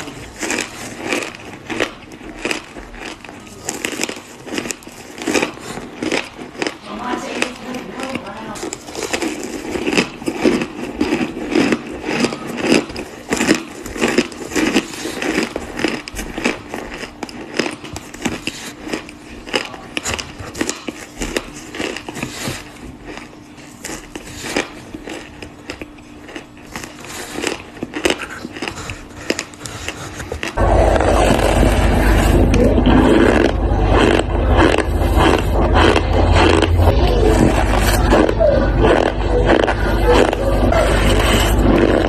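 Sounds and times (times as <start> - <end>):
crunchy chewing: 0.0 - 42.0.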